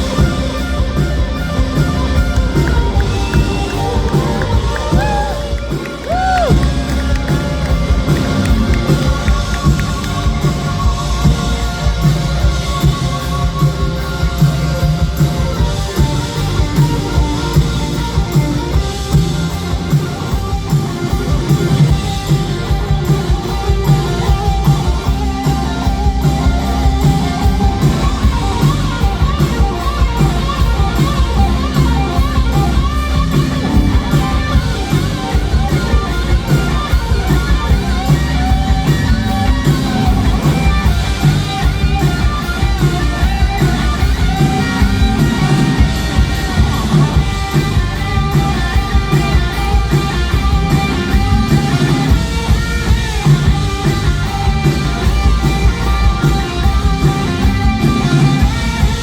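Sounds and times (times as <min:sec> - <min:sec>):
fast electric guitar lines: 0:00.0 - 0:59.0
rock band playing instrumental: 0:00.0 - 0:59.0.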